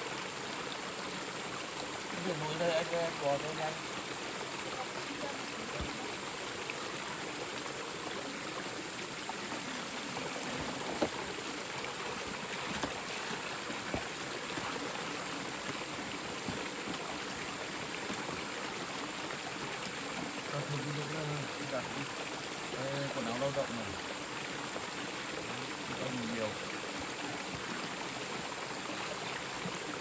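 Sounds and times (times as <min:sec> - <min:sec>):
stream flowing: 0:00.0 - 0:30.0.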